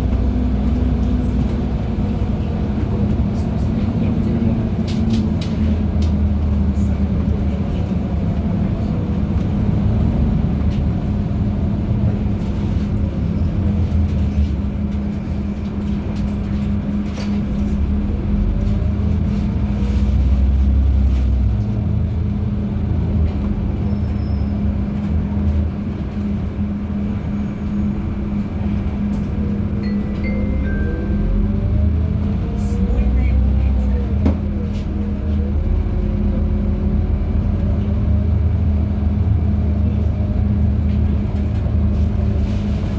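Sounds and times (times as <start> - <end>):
bus engine hum: 0.0 - 42.9
road rumble: 0.0 - 42.9.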